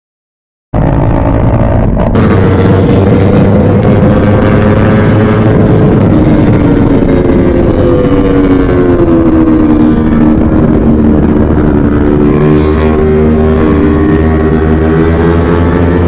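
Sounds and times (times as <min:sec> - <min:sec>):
motorcycle engine at high revs: 0:01.4 - 0:16.0.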